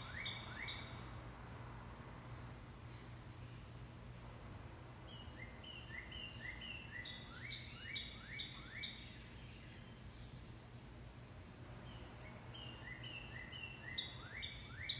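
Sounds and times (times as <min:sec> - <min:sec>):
faint steady low hum: 0:00.0 - 0:14.9
songbird singing: 0:00.0 - 0:14.9.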